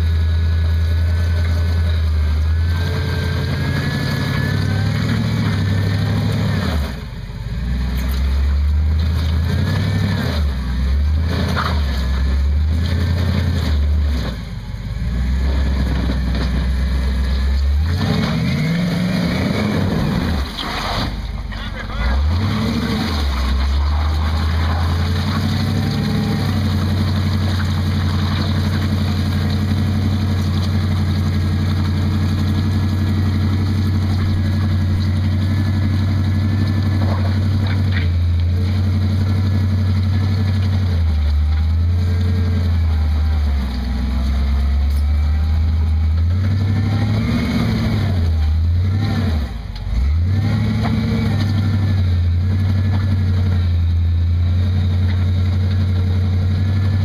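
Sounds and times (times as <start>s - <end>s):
buggy engine revving under load: 0.0s - 57.0s.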